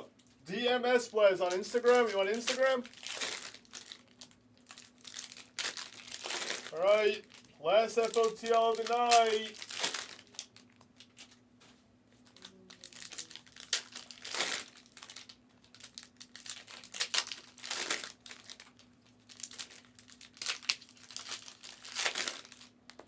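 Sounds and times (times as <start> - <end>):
plastic wrappers tearing and crinkling: 1.4 - 11.4, 12.2 - 23.0.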